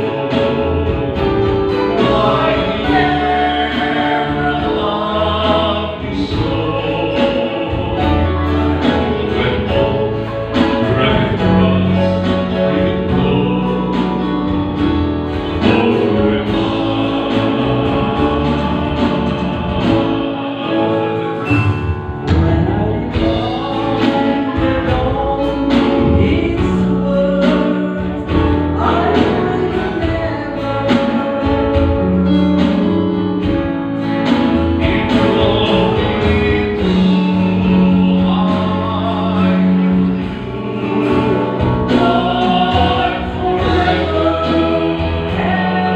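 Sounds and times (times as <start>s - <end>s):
gospel singing with accompaniment: 0.0s - 45.9s.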